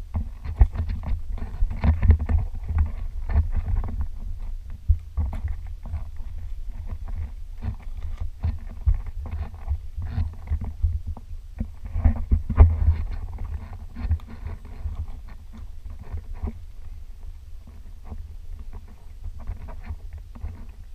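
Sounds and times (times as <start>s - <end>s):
handling and wind rumble: 0.0s - 20.9s.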